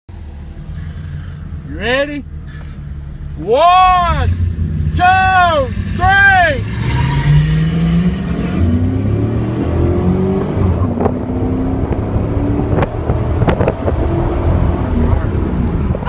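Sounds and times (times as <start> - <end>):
car engines accelerating hard: 0.1 - 16.0.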